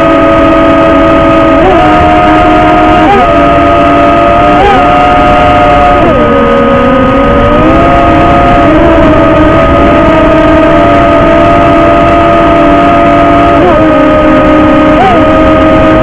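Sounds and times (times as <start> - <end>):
drone motors and propellers whining: 0.0 - 16.0
wind rush: 0.0 - 16.0.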